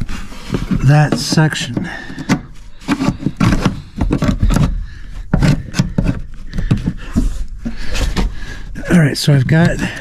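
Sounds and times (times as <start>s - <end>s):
knocks clicks and scrapes of handling: 0.0s - 10.0s.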